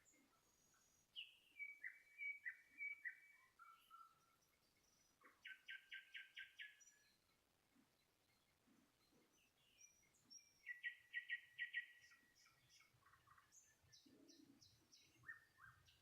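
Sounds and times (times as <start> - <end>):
bird singing: 0.0 - 16.0.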